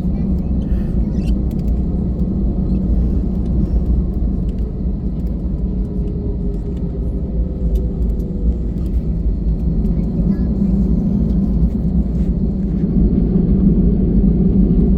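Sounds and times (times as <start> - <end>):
jet cabin engine rumble: 0.0 - 14.9.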